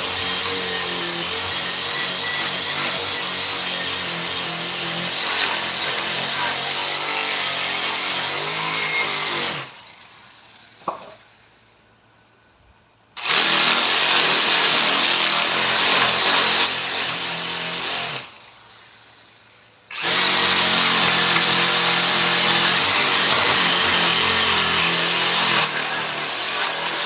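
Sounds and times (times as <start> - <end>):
electric power tool on wood: 0.0 - 11.1, 13.2 - 27.0.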